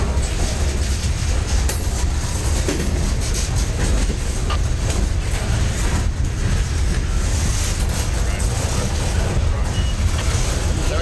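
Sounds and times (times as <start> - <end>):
steel wheels on rails: 0.0 - 11.0.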